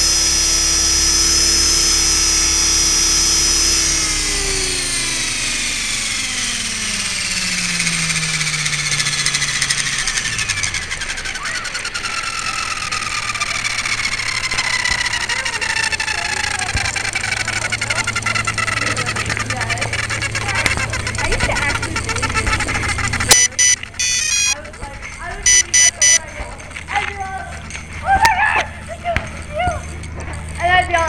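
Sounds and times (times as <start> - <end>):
helicopter motor winding down: 0.0 - 31.0
low hum: 0.0 - 31.0
rapid ticking: 0.1 - 31.0.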